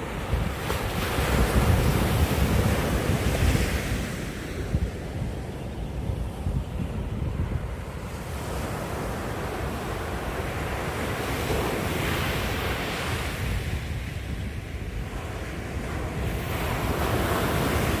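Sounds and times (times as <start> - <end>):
ocean waves breaking on beach: 0.0 - 18.0
wind buffeting microphone: 0.0 - 18.0.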